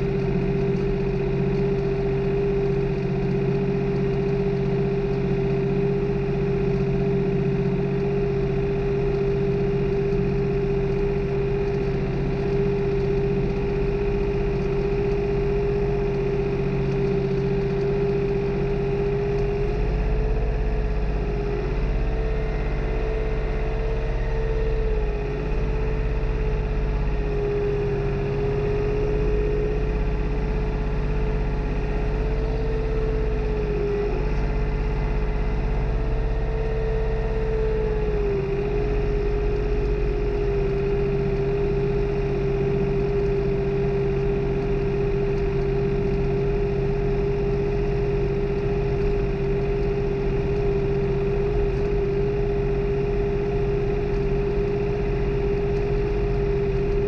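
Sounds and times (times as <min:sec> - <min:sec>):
tractor engine droning under load: 0:00.0 - 0:57.0.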